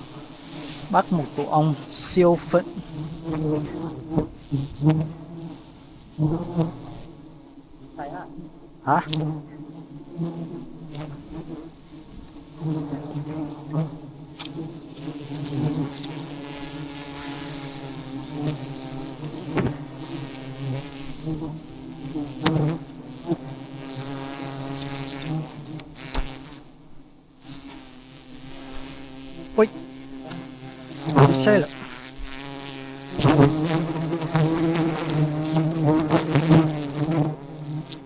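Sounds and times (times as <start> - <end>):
bees buzzing: 0.0 - 38.0.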